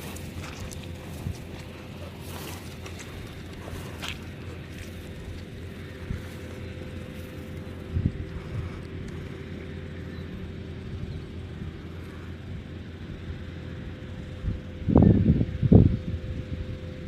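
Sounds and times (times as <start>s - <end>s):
wind buffeting microphone: 0.0s - 13.4s, 14.1s - 17.0s
faint steady hum: 0.0s - 17.0s.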